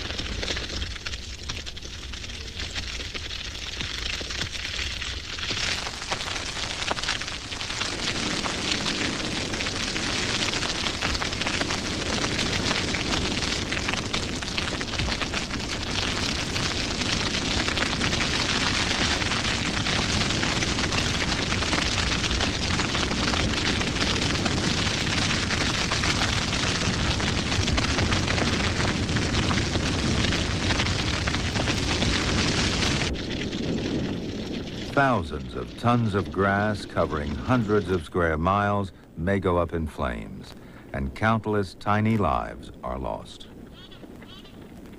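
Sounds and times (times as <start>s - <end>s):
grass fire crackling and popping: 0.0s - 44.9s.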